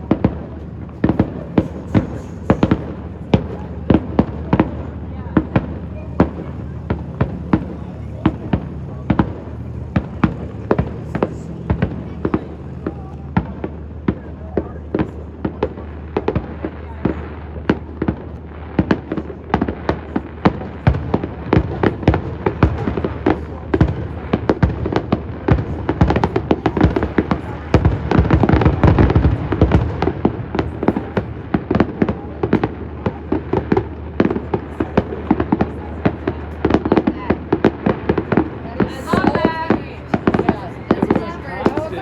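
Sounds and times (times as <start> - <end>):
fireworks booming and crackling: 0.0 - 42.0.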